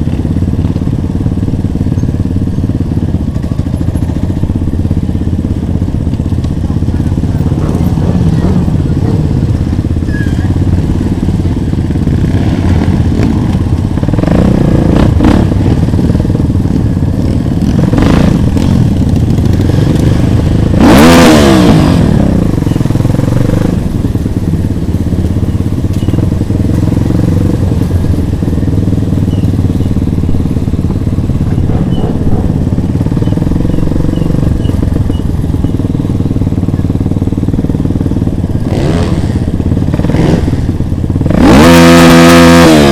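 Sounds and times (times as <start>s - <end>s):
motorcycle engines running: 0.0s - 42.9s
motorcycle passing by: 6.6s - 42.9s.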